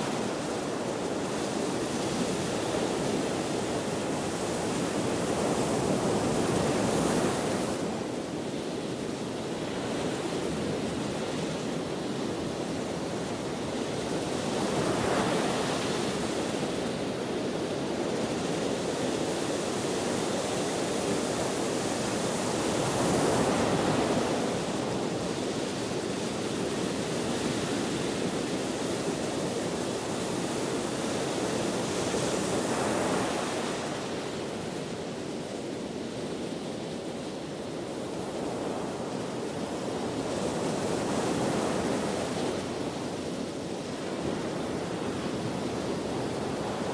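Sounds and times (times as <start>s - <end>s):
ocean waves breaking on shore: 0.0s - 46.9s
steady wind: 0.0s - 46.9s.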